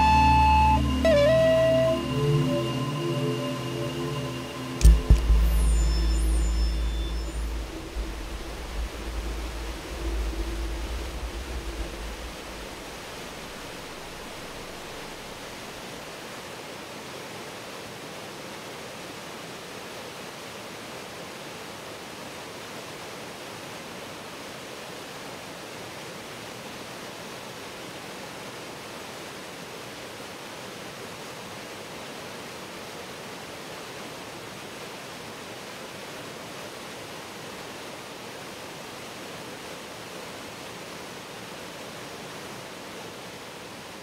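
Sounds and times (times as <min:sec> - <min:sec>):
whitewater rushing: 0:00.0 - 0:44.0.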